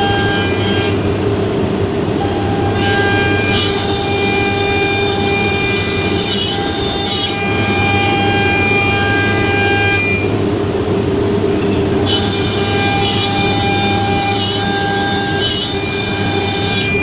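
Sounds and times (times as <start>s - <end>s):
low machine hum: 0.0s - 17.0s
router spindle whine: 0.0s - 17.0s.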